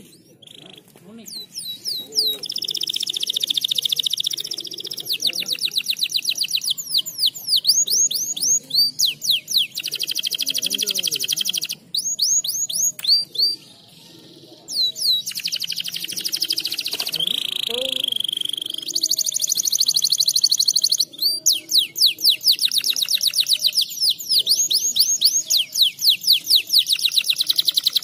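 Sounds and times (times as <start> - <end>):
canary singing: 0.0 - 28.0.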